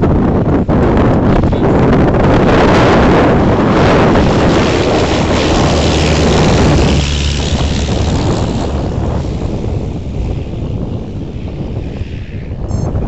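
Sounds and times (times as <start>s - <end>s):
light aircraft engine flyby: 0.0s - 13.0s
wind noise on microphone: 0.0s - 13.0s.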